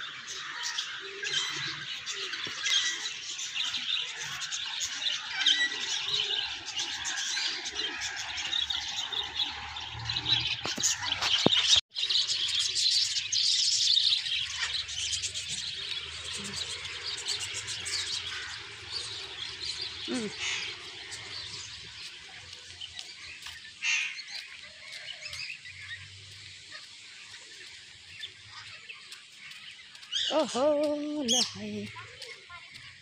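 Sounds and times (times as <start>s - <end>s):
birds chirping in chorus: 0.0s - 33.0s.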